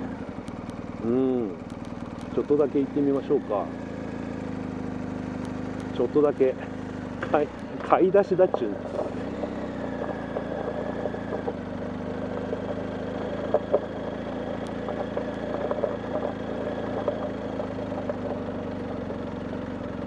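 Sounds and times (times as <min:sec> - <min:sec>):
clicks and knocks from rough track: 0:00.0 - 0:03.7, 0:05.4 - 0:19.9
motorcycle engine running: 0:00.0 - 0:20.0.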